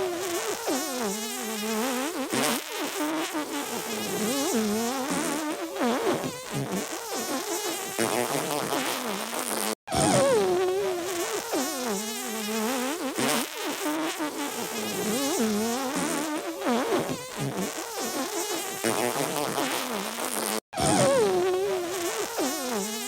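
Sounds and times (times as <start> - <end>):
cartoon fart sound effect: 0.0 - 23.0.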